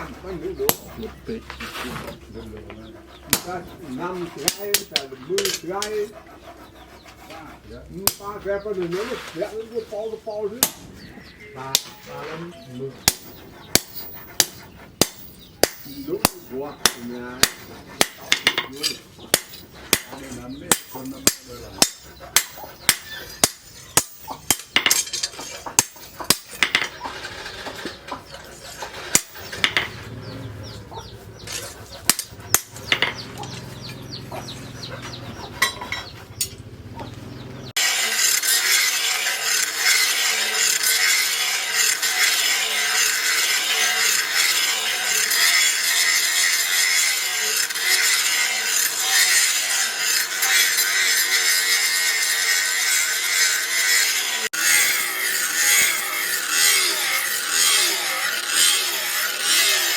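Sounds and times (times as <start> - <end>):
harsh rasping of steel: 0.0 - 10.2, 11.0 - 59.9.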